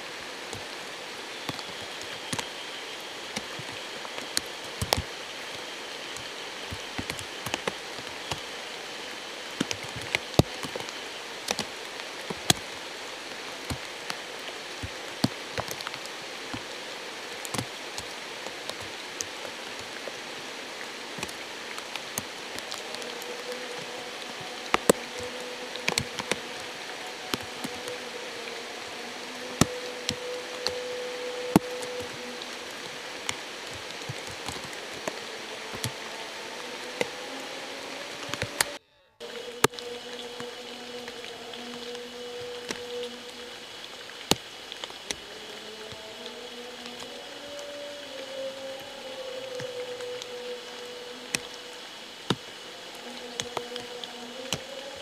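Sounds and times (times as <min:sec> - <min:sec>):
running water hiss: 0:00.0 - 0:55.0
water drips: 0:00.0 - 0:55.0.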